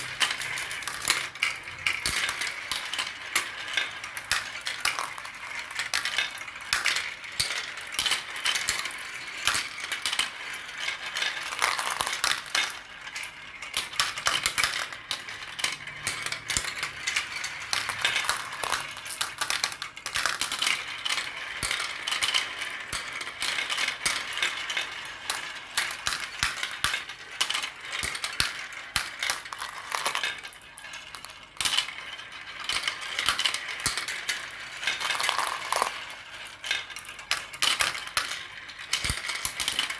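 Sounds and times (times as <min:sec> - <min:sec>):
marbles clattering down a track: 0:00.0 - 0:39.9.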